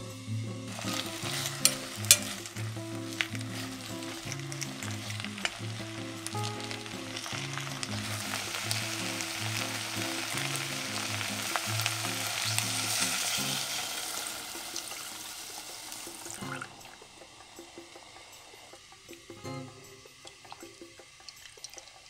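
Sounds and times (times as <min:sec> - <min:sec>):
food sizzling in hot oil: 0:00.0 - 0:22.0
water being poured: 0:00.6 - 0:22.0.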